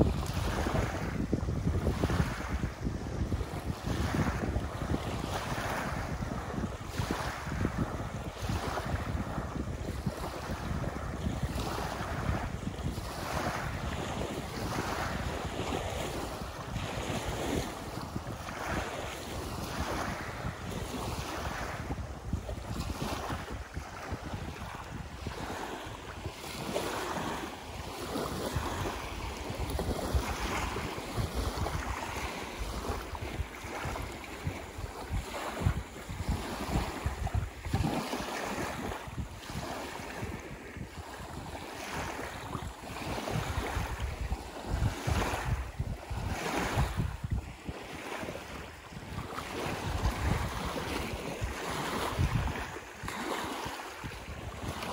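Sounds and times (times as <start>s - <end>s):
waves lapping onto beach: 0.0s - 54.9s
wind buffeting microphone: 0.0s - 54.9s.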